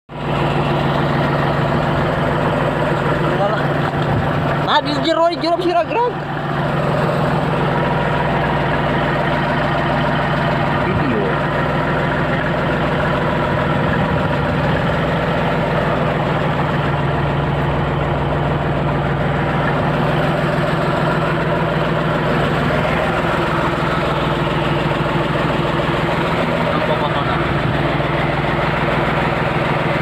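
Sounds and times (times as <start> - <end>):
boat engine running: 0.1 - 30.0.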